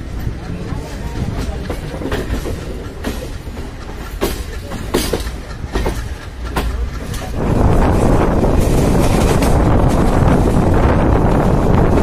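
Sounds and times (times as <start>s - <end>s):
train wheels rumbling: 0.0s - 12.0s
wheels clacking over rail joints: 0.0s - 12.0s.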